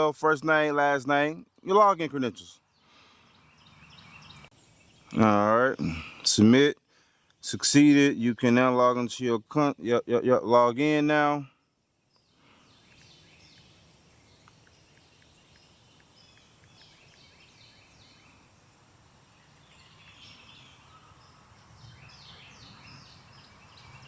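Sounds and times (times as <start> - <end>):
birds chirping: 0.0 - 11.3, 12.0 - 24.0.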